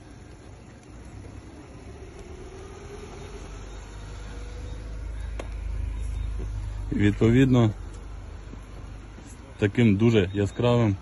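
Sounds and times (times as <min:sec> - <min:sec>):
faint drifting hum: 0:00.0 - 0:11.0
vehicle engine rumble: 0:00.0 - 0:11.0.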